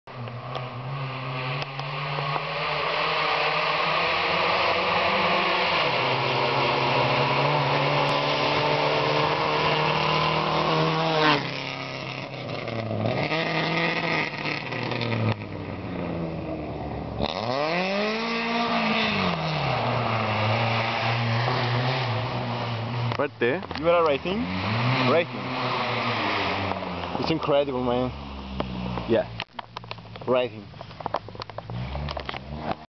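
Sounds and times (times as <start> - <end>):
rally car engine revving: 0.1 - 32.9.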